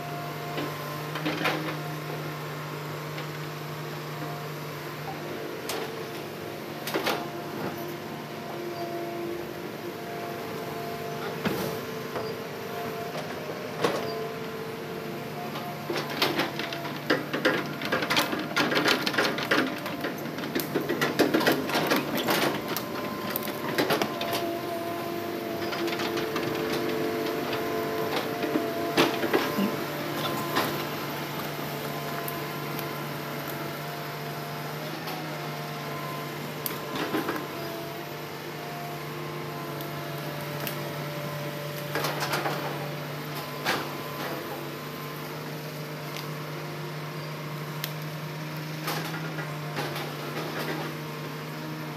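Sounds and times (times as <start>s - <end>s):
excavator engine drone: 0.0s - 51.9s
excavator bucket and tracks clanking: 0.5s - 2.4s, 3.0s - 51.9s.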